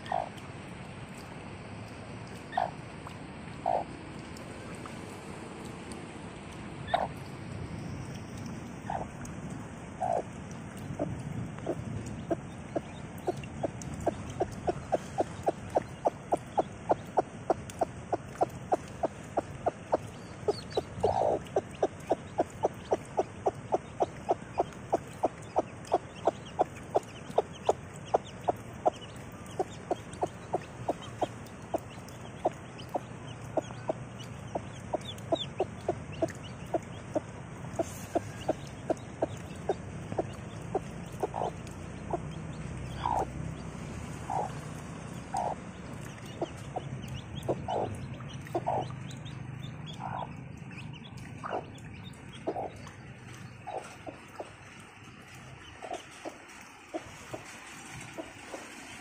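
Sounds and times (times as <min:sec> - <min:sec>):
hen clucking: 0:02.5 - 0:02.8, 0:03.6 - 0:03.9, 0:06.9 - 0:07.2, 0:08.8 - 0:09.2, 0:10.0 - 0:59.0.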